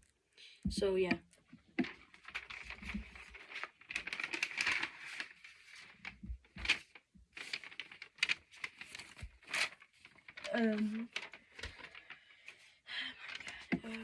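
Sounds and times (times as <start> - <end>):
paper rustling and crinkling: 1.4 - 14.0.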